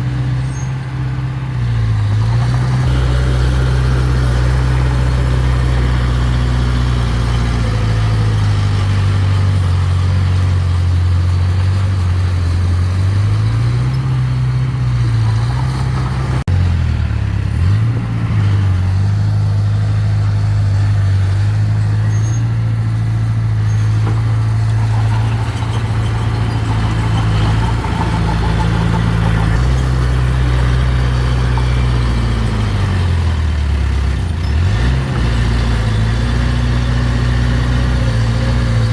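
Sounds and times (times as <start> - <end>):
heavy equipment engine running: 0.0 - 38.9.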